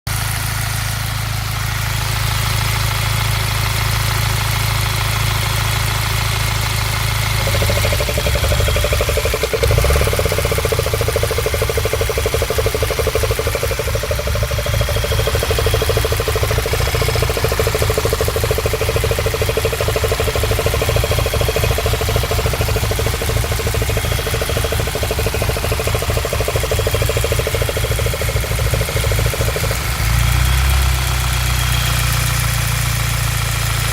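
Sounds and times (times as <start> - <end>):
engine running with knocking: 0.1 - 33.9.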